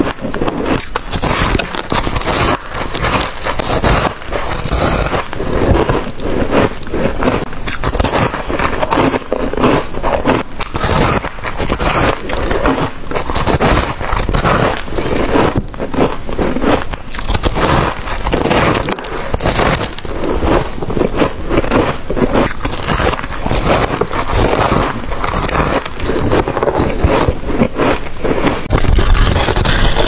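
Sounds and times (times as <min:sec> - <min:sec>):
frost crunching being chewed: 0:00.0 - 0:30.0.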